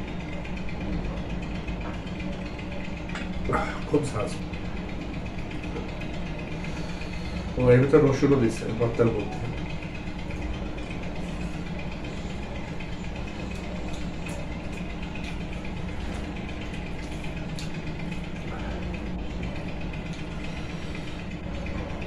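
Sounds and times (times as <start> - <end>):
machine hum with held tones: 0.0 - 22.0.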